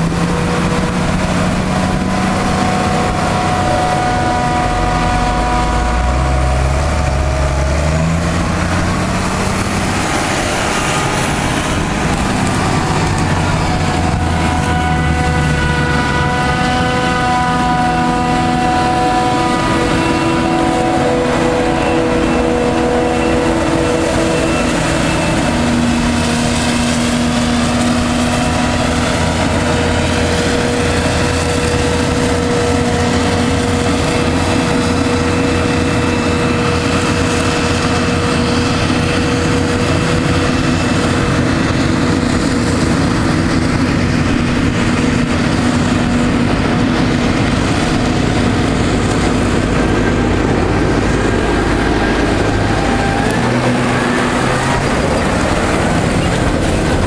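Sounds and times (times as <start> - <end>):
heavy machinery engines droning: 0.0 - 57.0
steady whining tones: 0.0 - 57.0.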